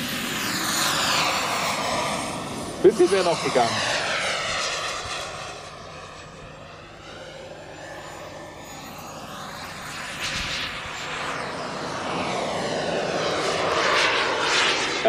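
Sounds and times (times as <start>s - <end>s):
model jet turbine whining: 0.0s - 15.0s.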